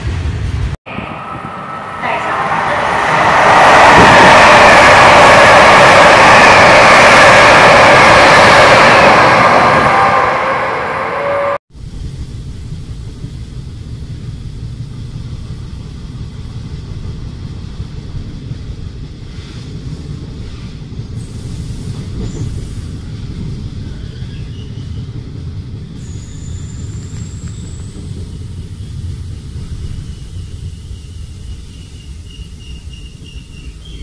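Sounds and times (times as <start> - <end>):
loud train sound: 0.0 - 34.0
moving train rumble: 0.0 - 34.0.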